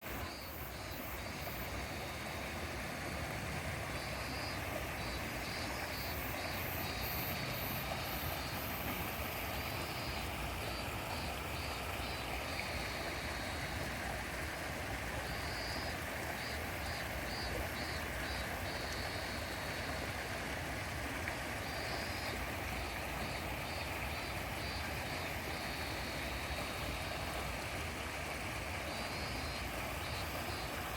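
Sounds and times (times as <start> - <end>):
river water rushing: 0.1 - 30.9.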